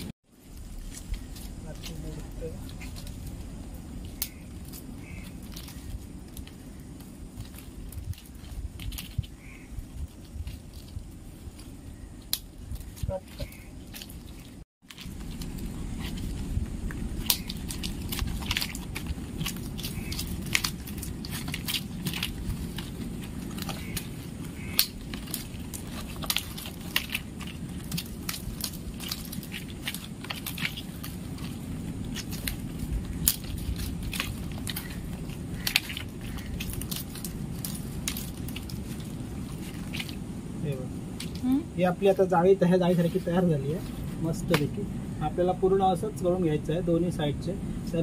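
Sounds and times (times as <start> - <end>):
dry palm leaves crackling: 0.0 - 48.0.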